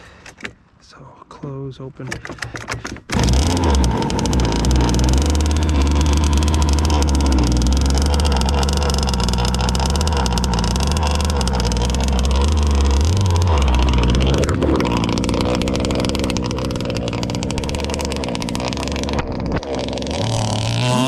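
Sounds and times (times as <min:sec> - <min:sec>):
two-stroke boat engine running: 0:03.1 - 0:21.0.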